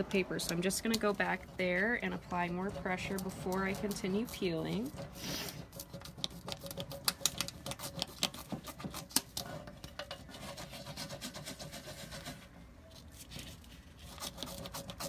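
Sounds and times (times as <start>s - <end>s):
scratchy rubbing and crinkly clicks: 2.2s - 15.0s.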